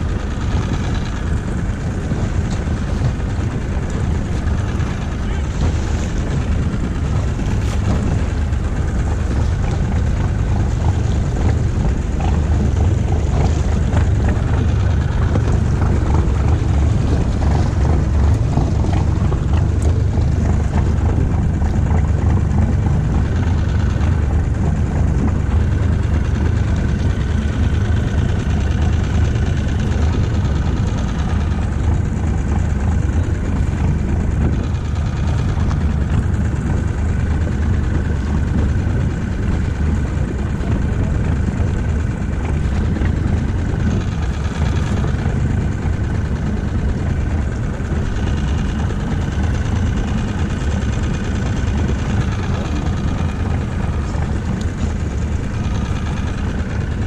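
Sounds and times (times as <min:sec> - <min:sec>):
small outboard motor running: 0:00.0 - 0:57.0
water noise: 0:00.0 - 0:57.0
wind: 0:00.0 - 0:57.0.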